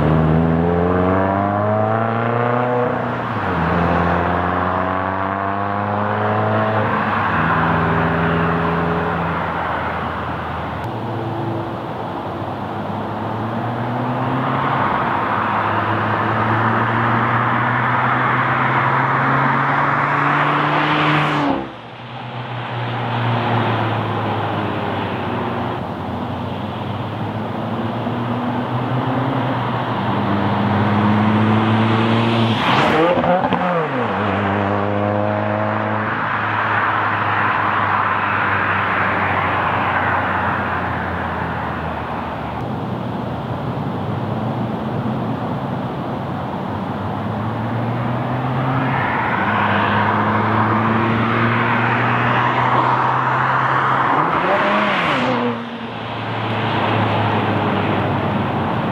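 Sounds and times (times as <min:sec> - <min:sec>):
car engine revving driving by: 0:00.0 - 0:11.9, 0:13.0 - 0:42.6, 0:46.8 - 0:58.9.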